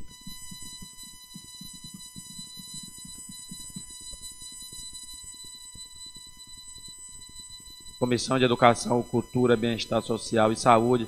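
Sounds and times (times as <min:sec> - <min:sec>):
high-pitched electronic whine: 0:00.0 - 0:11.0.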